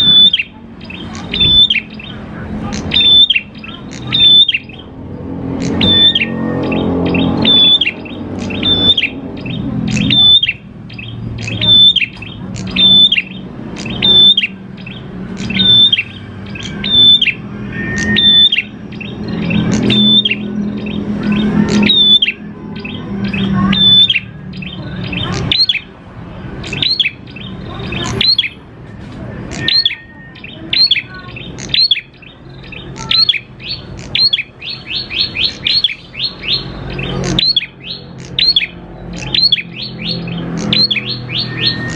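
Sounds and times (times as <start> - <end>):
bird singing sharp high notes: 0.0 - 28.7, 29.5 - 41.9.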